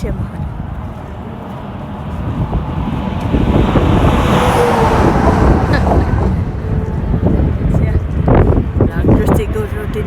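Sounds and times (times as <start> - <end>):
vehicle driving past: 0.4 - 8.9.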